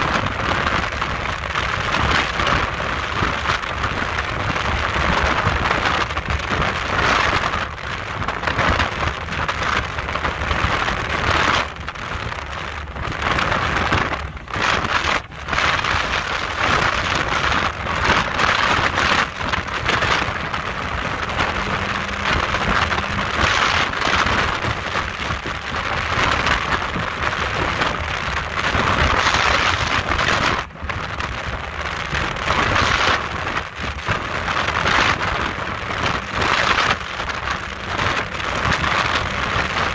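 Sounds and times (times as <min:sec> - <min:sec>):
boat engine running: 0:00.0 - 0:39.9
wind buffeting microphone: 0:00.0 - 0:39.9.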